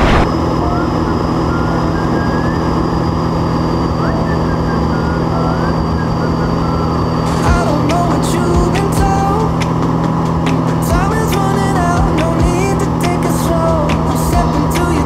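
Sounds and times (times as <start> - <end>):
high whine: 0.0 - 15.0
propeller plane engine droning: 0.0 - 15.0.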